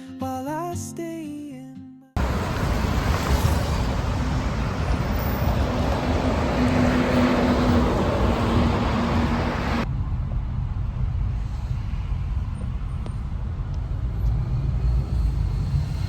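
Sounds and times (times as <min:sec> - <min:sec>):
moving vehicle rumble and hiss: 0:02.2 - 0:16.0.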